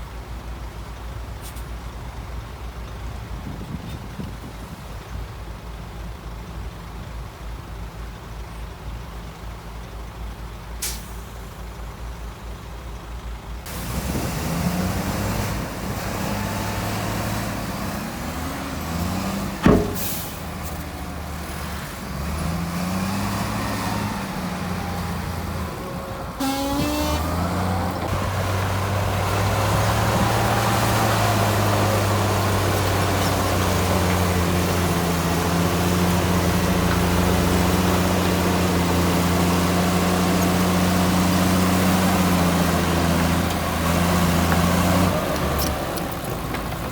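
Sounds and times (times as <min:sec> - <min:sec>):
heavy diesel engines revving: 0:08.9 - 0:46.9.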